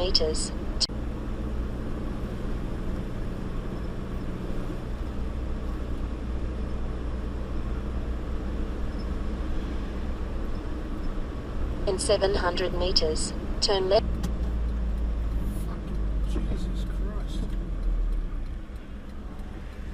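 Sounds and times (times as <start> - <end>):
road noise: 0.0 - 19.9
truck engine drone: 0.0 - 19.9.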